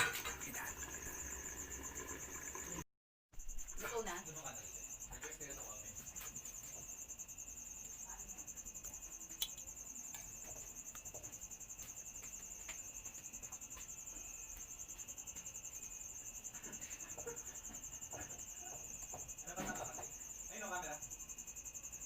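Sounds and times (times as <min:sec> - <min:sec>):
crickets trilling: 0:00.0 - 0:02.8, 0:03.4 - 0:22.0.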